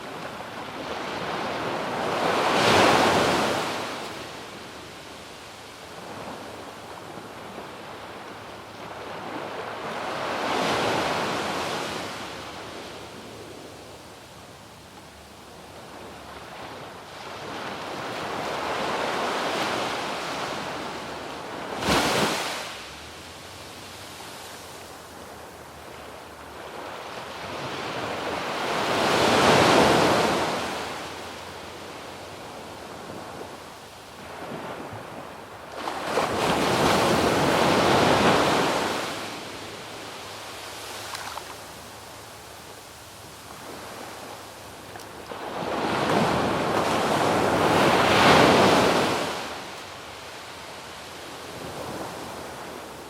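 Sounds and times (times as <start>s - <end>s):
waves washing up beach: 0.0s - 53.0s.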